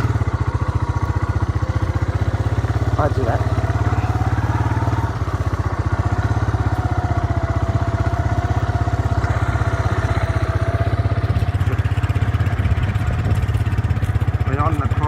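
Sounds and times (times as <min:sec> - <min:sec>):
motorbike engine puttering: 0:00.0 - 0:15.0.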